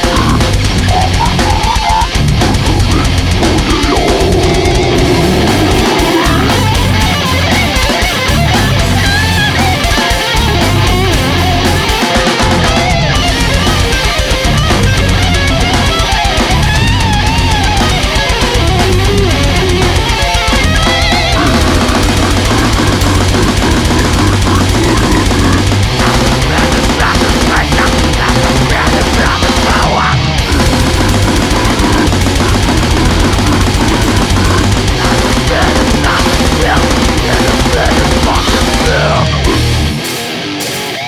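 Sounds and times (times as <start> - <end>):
heavy metal music: 0.0 - 41.0.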